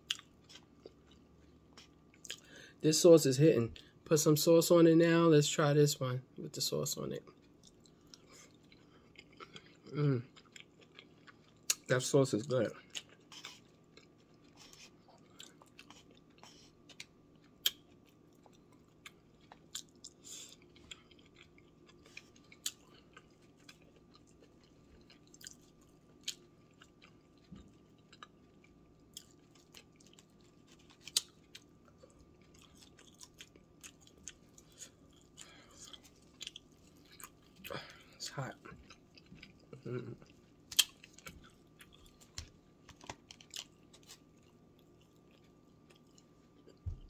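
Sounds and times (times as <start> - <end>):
chewing food: 0.0 - 2.5, 7.2 - 11.9, 12.5 - 47.0
faint steady hum: 0.0 - 47.0.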